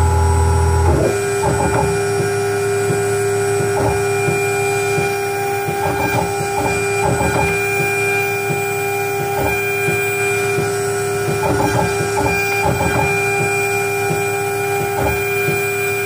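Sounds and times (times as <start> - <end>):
motor axes buzzing: 0.0 - 16.0
router spindle whining: 0.0 - 16.0.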